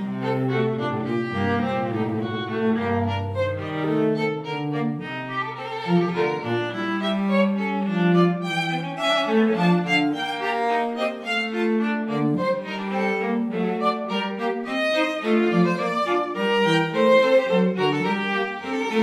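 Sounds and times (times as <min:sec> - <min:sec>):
string trio playing: 0:00.0 - 0:19.0.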